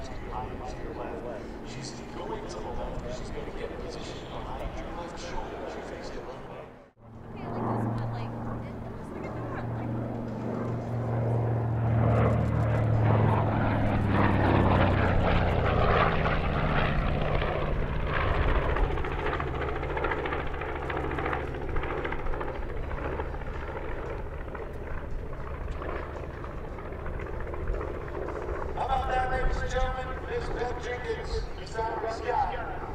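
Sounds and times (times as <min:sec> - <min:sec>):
propeller plane droning past: 0:00.0 - 0:32.9.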